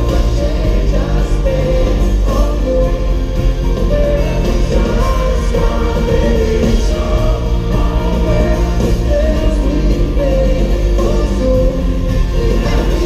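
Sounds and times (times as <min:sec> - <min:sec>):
live pop band with singing: 0:00.0 - 0:13.0.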